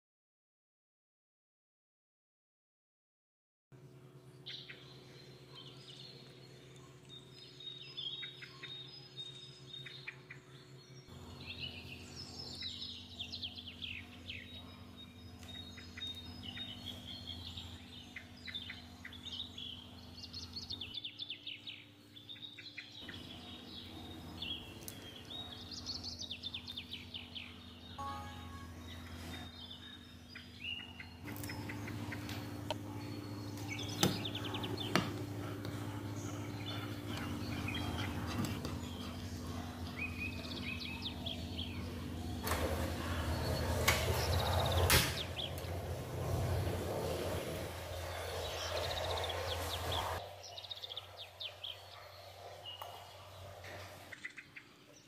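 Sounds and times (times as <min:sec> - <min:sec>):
low steady hum: 0:03.8 - 0:54.4
birds chirping and trilling: 0:03.8 - 0:55.0.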